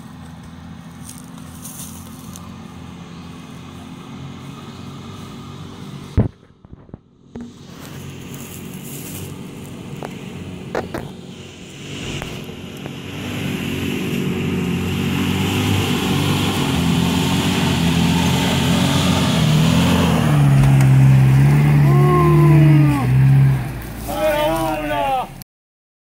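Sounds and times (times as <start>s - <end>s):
car engine climbing slope: 0.0s - 25.4s.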